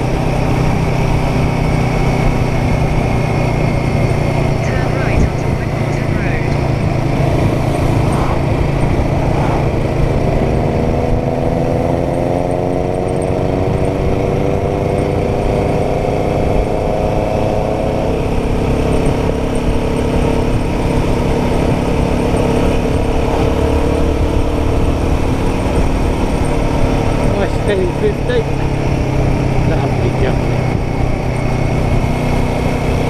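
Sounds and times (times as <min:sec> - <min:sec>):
low wind rumble: 0:00.0 - 0:33.0
motorcycle engine running: 0:00.0 - 0:33.0.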